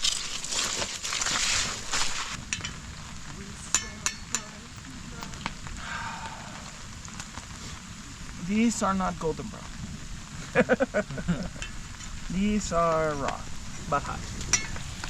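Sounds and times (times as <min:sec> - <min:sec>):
fries sizzling in oil: 0:00.0 - 0:15.0.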